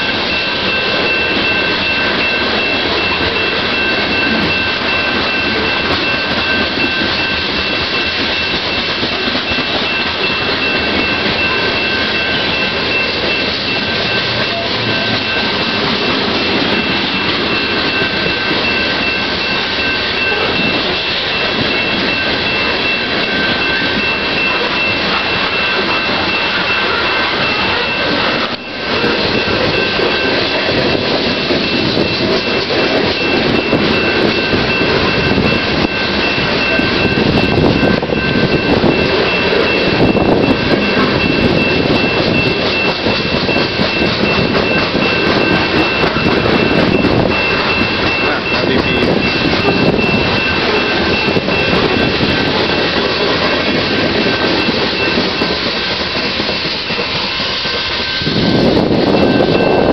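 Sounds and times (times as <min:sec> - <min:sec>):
steady high-pitched tone: 0:00.0 - 0:59.9
train wheels clicking on rails: 0:00.0 - 0:59.9.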